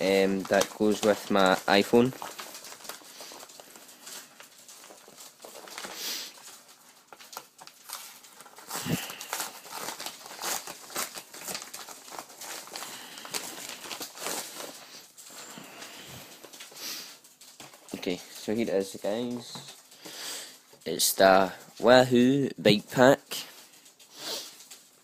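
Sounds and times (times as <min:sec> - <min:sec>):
paper envelope crinkling: 0:00.0 - 0:25.0.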